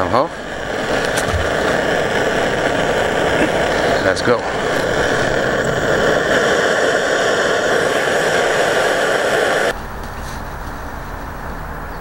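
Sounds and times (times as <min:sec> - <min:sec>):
low rumble: 0:00.0 - 0:09.8
gas stove hissing: 0:00.0 - 0:12.0.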